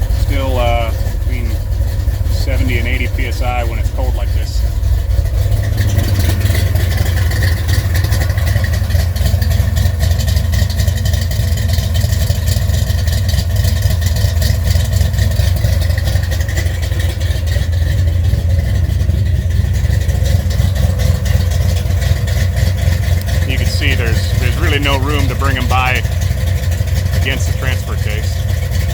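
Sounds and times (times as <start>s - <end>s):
truck engine idling: 0.0s - 28.9s.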